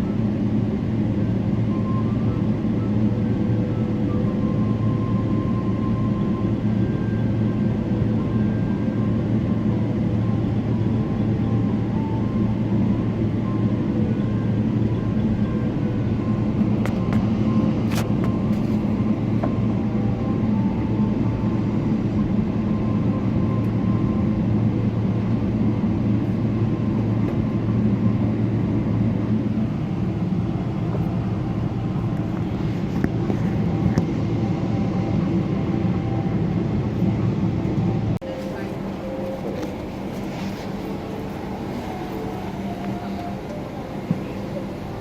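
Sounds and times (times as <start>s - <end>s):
airplane cabin rumble: 0.0s - 45.0s.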